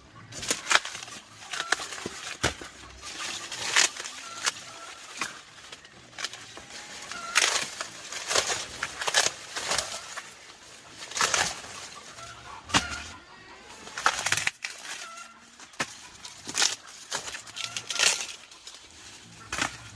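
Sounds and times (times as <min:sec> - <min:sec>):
chicken clucking: 0:00.0 - 0:19.9
dry plants rustling and crunching: 0:00.0 - 0:19.9.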